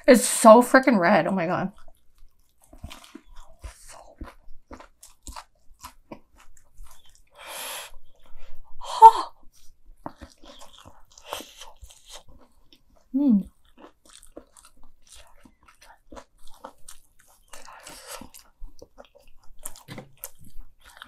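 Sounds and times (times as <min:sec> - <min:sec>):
chewing crunchy fried food: 0:01.6 - 0:08.7, 0:09.3 - 0:21.0.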